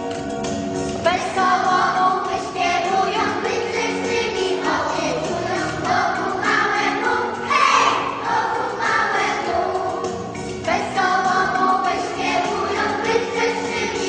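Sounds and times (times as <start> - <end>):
children's choir singing carol: 1.1 - 14.0.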